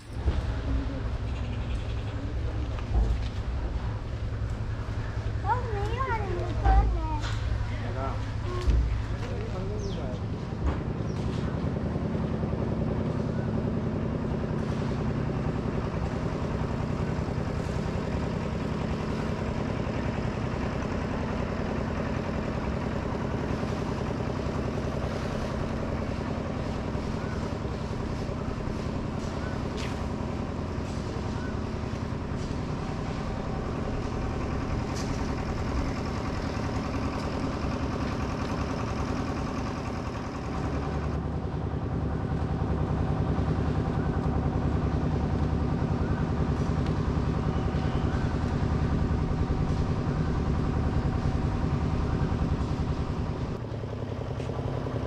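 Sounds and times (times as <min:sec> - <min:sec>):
steady mechanical drone: 0:00.0 - 0:55.0.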